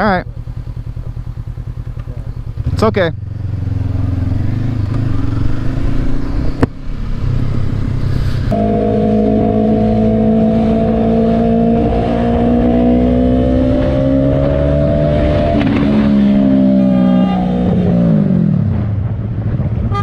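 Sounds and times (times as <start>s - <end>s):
motorcycle engine rising in pitch: 0.0s - 19.6s
motorcycle engine rumbling: 0.0s - 20.0s.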